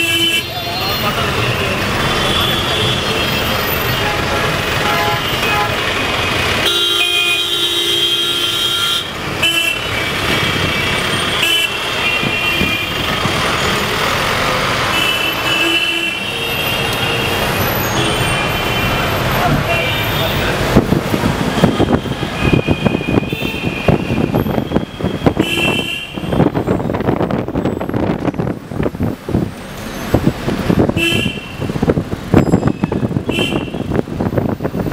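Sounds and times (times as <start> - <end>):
car horns honking: 0.0 - 28.1, 30.7 - 34.0
car engines running: 0.7 - 6.9, 9.1 - 34.9.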